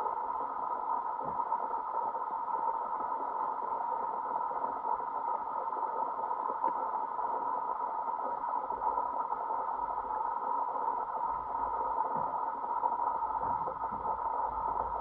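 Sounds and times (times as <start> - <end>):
muffled underwater noise: 0.0 - 15.0.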